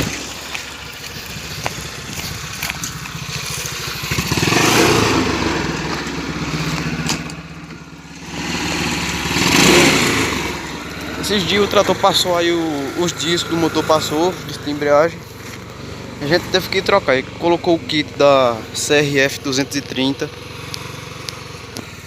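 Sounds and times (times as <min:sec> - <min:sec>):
small motorcycle engine revving: 0:00.0 - 0:22.0.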